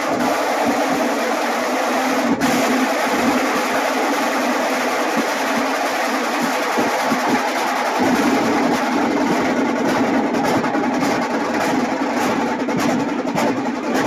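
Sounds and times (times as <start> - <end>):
barrel drums beaten with sticks: 2.3 - 14.0.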